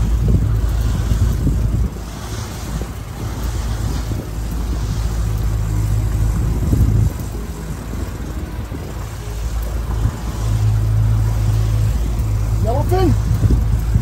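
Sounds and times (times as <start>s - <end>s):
outboard motor droning: 0.0s - 14.0s
rush of boat wake: 0.0s - 14.0s
wind: 0.0s - 14.0s.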